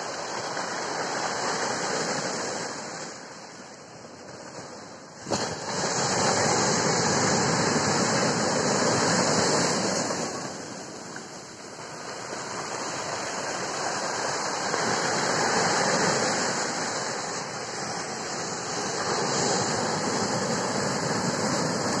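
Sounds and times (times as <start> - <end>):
waves breaking on a stony beach: 0.0 - 22.0.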